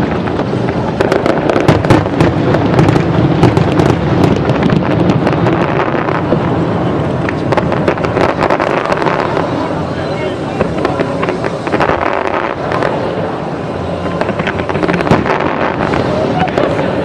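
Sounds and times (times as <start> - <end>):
fireworks cracking and banging: 0.0 - 17.0
steady noise: 0.0 - 17.0.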